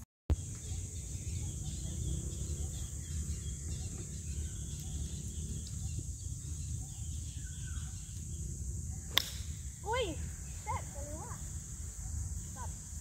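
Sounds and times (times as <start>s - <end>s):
high-pitched insect drone: 0.3s - 13.0s
low uneven rumble: 0.4s - 13.0s.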